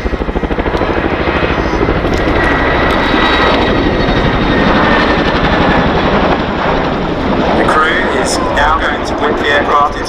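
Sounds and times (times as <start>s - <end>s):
helicopter rotor blade slap: 0.0s - 10.0s
high helicopter whine: 0.0s - 10.0s.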